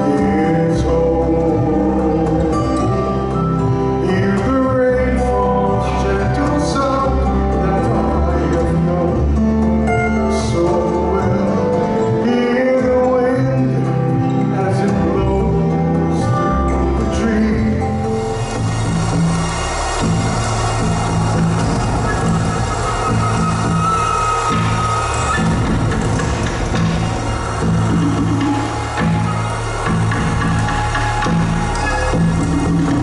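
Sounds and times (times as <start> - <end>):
show music with singing: 0.0 - 33.0.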